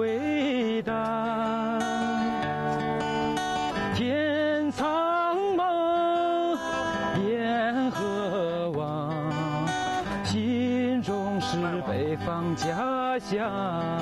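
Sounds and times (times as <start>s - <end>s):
man singing slow song: 0.0s - 14.0s
strummed acoustic guitar: 0.0s - 14.0s.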